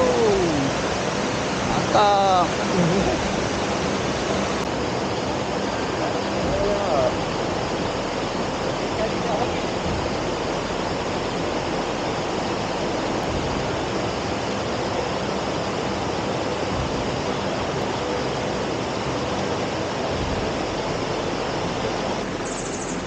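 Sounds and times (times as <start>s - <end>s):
water rushing over rock: 0.0s - 23.0s.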